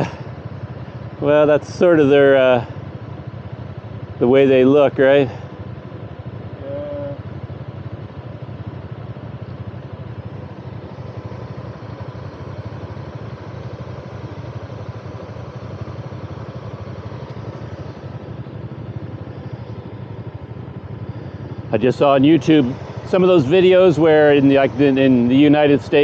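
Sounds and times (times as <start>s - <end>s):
motorbike engine idling: 0.0s - 26.0s.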